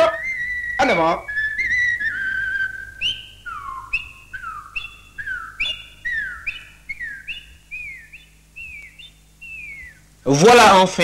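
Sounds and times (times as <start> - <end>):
high whistled sliding notes: 0.0 - 10.1.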